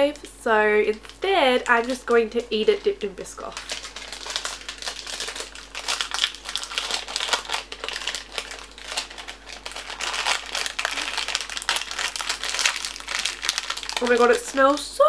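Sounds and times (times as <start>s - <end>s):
plastic wrapper crinkling: 0.8s - 15.0s.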